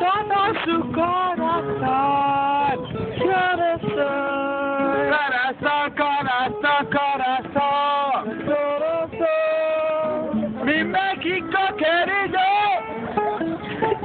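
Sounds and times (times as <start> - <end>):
man singing loudly: 0.0 - 13.0
acoustic guitar strumming: 0.0 - 14.0.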